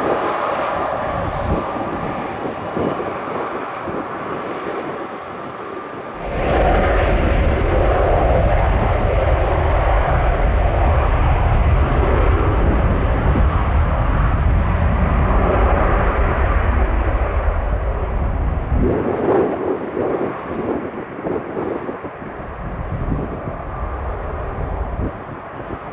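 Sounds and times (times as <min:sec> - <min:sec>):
aircraft engine deep rumble: 0:00.0 - 0:25.9
wind buffeting microphone: 0:00.0 - 0:25.9.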